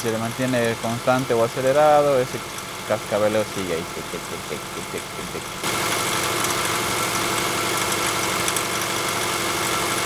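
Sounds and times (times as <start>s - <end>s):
car engine running steadily: 0.0s - 10.0s.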